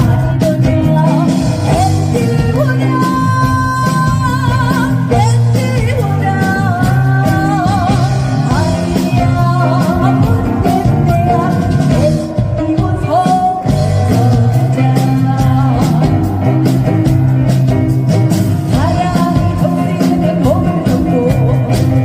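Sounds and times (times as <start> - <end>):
person singing with ornamented pitch: 0.0 - 17.7, 18.7 - 22.0
bass: 0.0 - 22.0
steady drum beat: 0.0 - 22.0.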